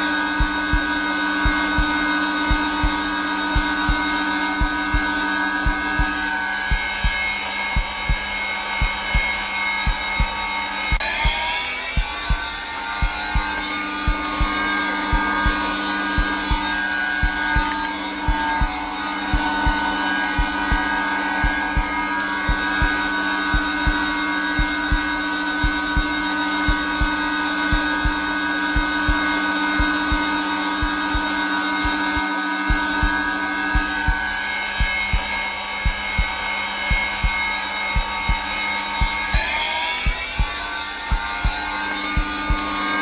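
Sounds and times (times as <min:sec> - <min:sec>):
heartbeat thumping: 0:00.0 - 0:42.8
vacuum cleaner running: 0:00.0 - 0:43.0.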